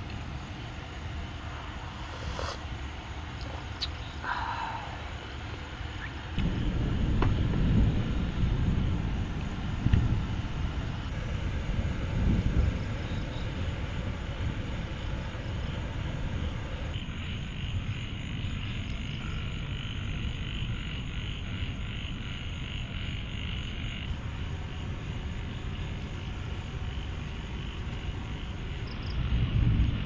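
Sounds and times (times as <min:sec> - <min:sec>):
frogs croaking: 0:00.0 - 0:30.0
low background rumble: 0:00.0 - 0:30.0.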